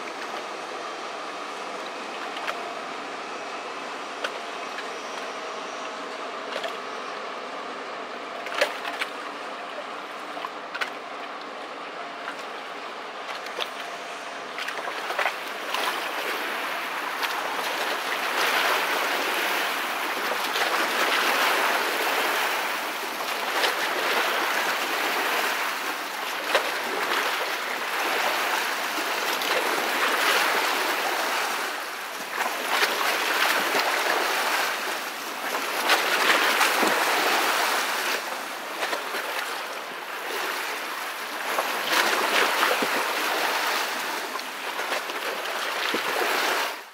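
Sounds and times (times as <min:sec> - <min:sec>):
wake waves splashing: 0:06.3 - 0:46.9.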